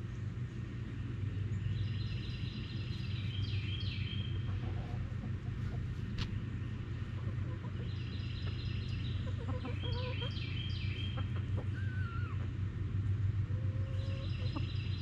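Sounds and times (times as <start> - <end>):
steady low hum: 0.0 - 15.0
chickens clucking and calling: 2.0 - 15.0.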